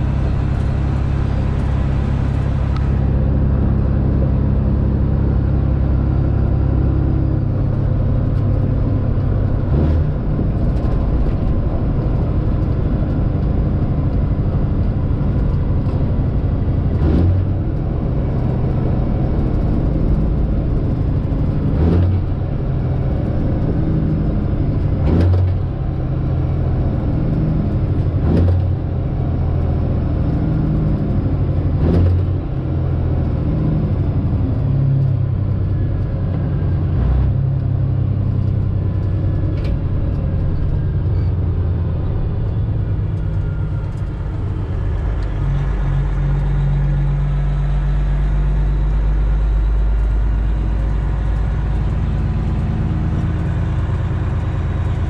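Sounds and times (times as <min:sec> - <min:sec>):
diesel truck engine rumble: 0:00.0 - 0:55.0.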